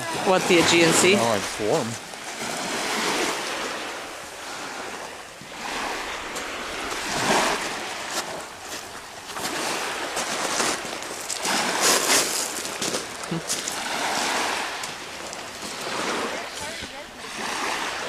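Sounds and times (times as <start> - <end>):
waves washing on pebble beach: 0.0 - 18.0.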